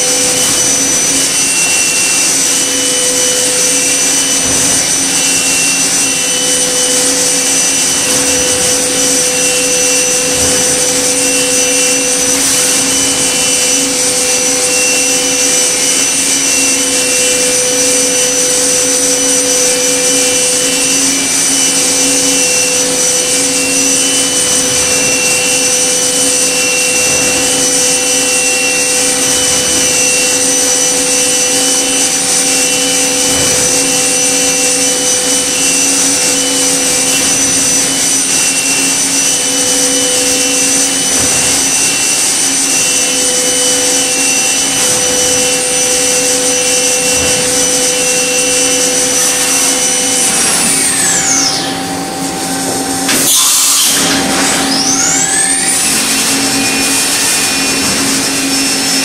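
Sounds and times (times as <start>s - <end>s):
milling spindle whine: 0.0s - 59.0s.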